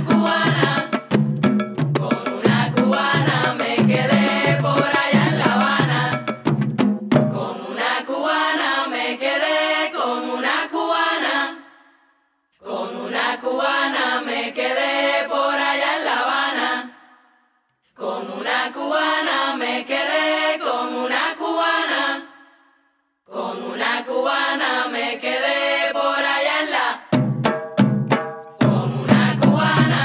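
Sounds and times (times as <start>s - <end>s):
voices chanting a cappella: 0.0s - 1.2s, 2.0s - 6.5s, 7.1s - 27.2s, 28.6s - 30.0s.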